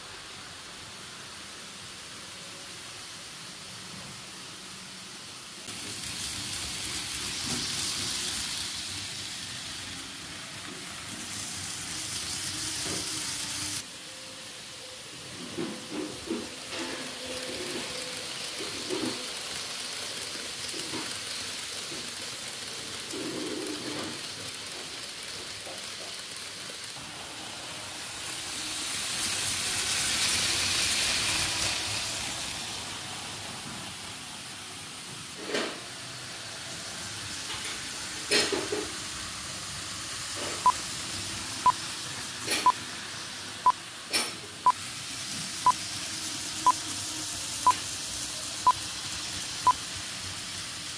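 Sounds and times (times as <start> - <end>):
model trains whirring on track: 0.0 - 50.9.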